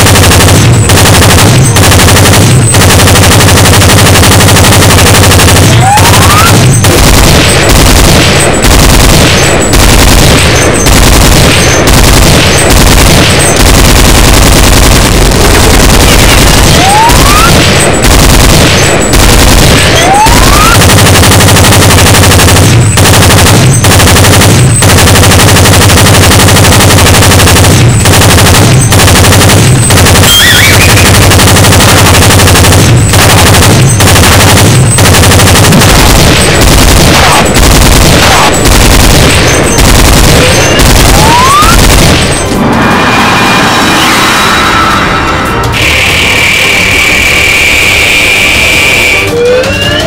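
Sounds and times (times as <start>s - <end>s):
machine-gun fire: 0.0s - 43.0s, 45.6s - 50.0s.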